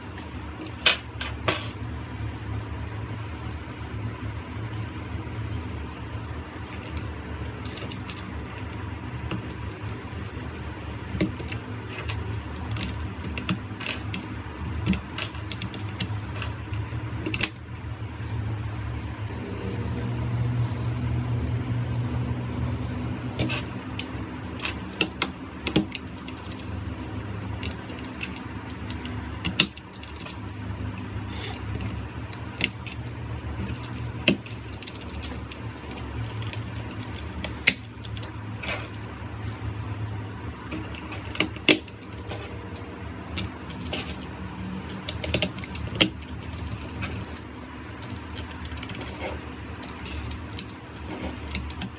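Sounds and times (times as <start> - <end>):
low background hum: 0.0 - 51.9.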